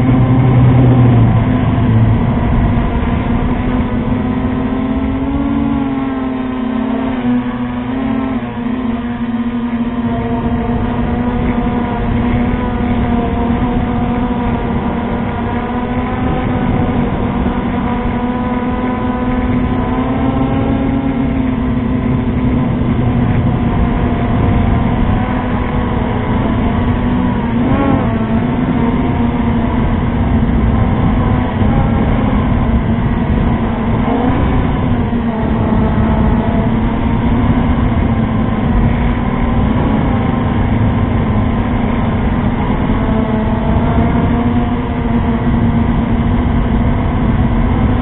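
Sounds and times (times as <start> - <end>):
drone motors whining: 0.0 - 48.0.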